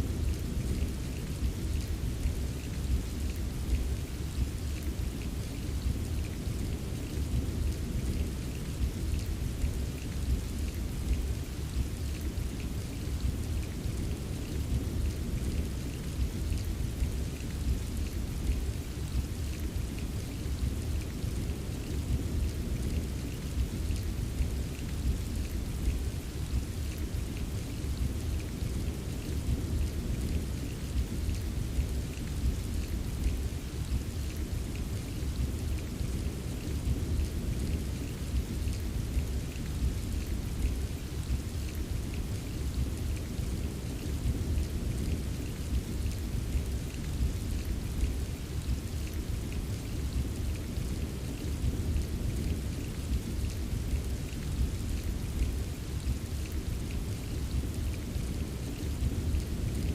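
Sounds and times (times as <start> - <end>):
rain drops tapping: 0.0 - 59.9.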